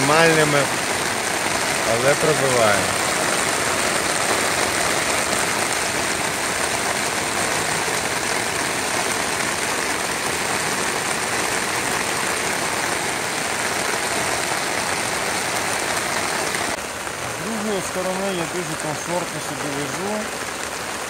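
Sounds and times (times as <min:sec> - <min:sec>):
heavy rain on a tent: 0:00.0 - 0:21.0.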